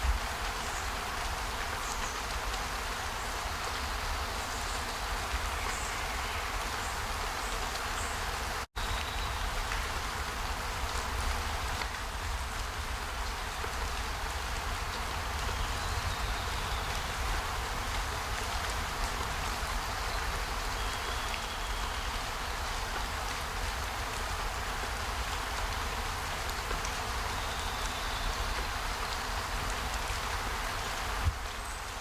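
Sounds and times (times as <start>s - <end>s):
rushing water: 0.0s - 32.0s.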